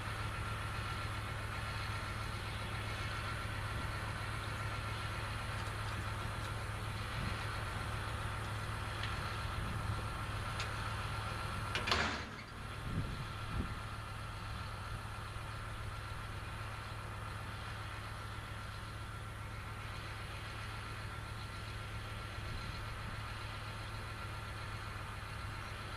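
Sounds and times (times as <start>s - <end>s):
engine running steadily: 0.0s - 25.9s.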